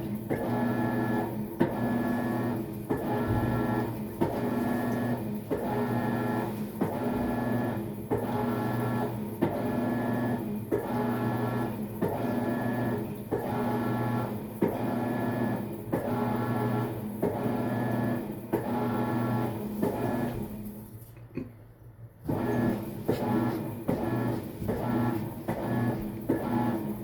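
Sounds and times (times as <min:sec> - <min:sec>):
washing machine motor humming: 0:00.0 - 0:20.9, 0:22.1 - 0:27.0.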